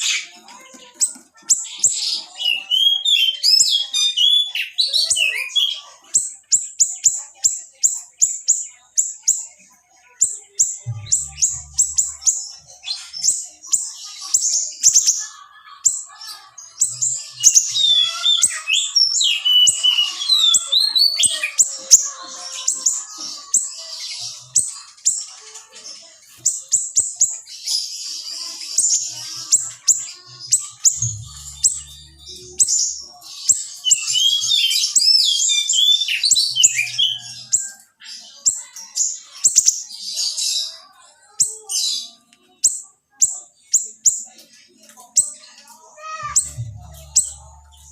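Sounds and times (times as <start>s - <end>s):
small songbird singing: 0.9s - 47.9s.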